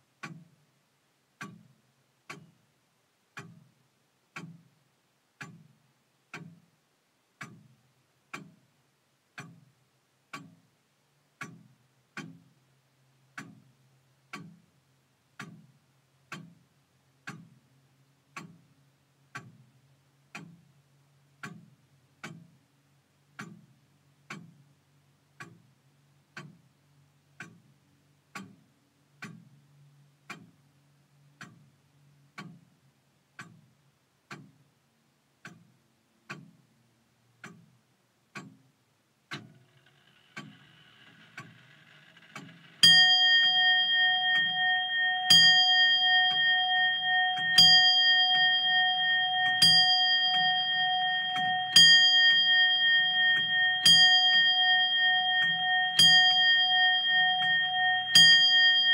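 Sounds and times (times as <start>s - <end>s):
clock ticking: 0.0s - 58.9s.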